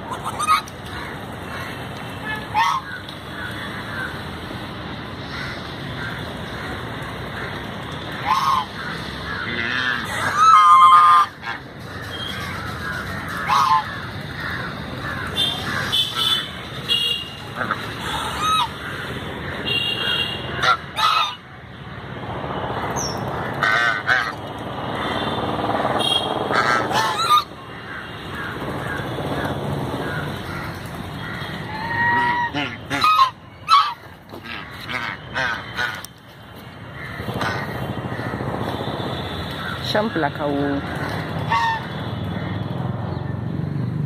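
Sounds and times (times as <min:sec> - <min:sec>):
geese honking: 0:00.0 - 0:04.3, 0:05.2 - 0:21.5, 0:23.4 - 0:25.4, 0:26.0 - 0:36.2, 0:36.8 - 0:42.6.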